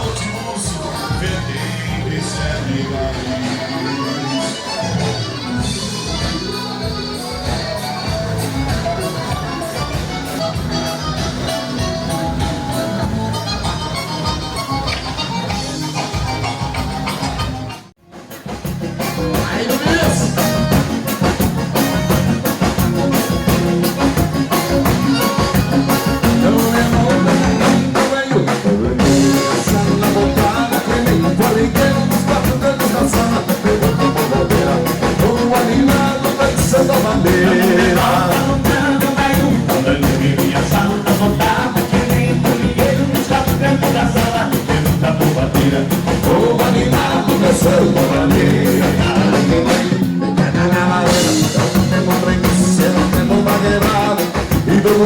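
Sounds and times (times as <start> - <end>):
drum kit beat: 0.0 - 55.0
live dance band: 0.0 - 55.0.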